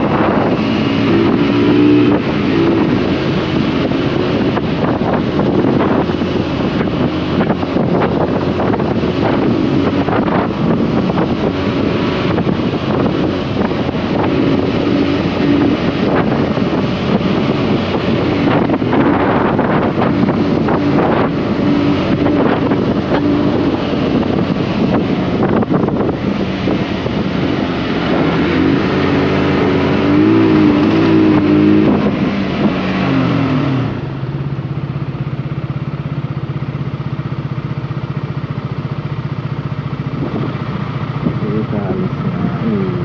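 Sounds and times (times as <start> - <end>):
wind rushing over microphone: 0.0 - 37.4, 38.6 - 43.0
motorcycle engine: 0.0 - 43.0.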